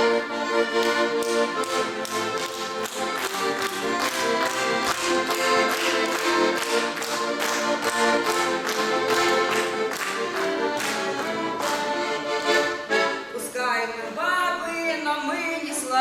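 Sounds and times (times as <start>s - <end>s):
accordion: 0.0s - 15.9s.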